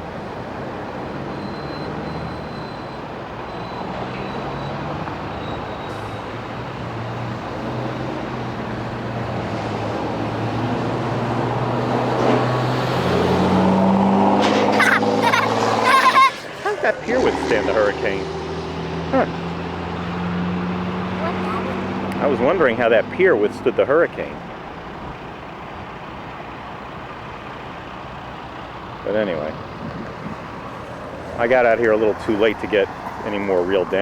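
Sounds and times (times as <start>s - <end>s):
engine hum: 0.0s - 34.0s
tyre road noise: 0.0s - 34.0s.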